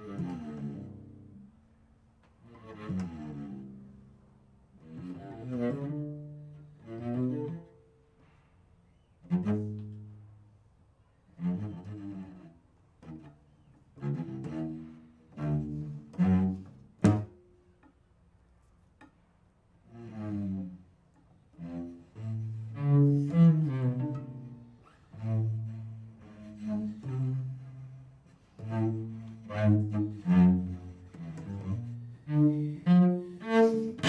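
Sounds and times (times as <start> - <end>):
solo cello bowed phrases: 0.0 - 34.0.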